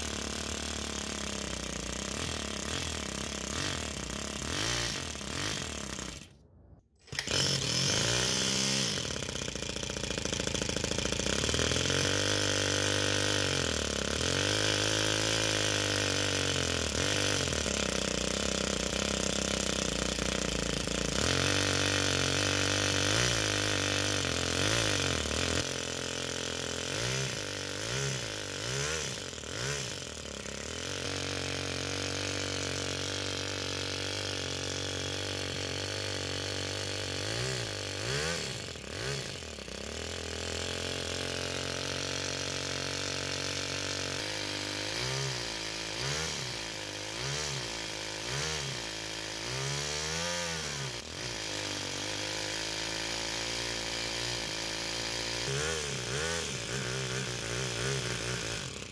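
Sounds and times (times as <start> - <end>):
nitro engine idling: 0.0 - 58.9.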